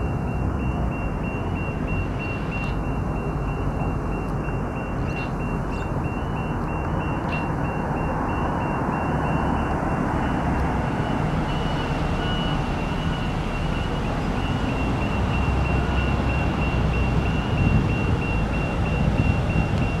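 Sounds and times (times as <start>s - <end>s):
low rumble of traffic: 0.0s - 20.0s
rapid high warning beeps: 0.0s - 20.0s.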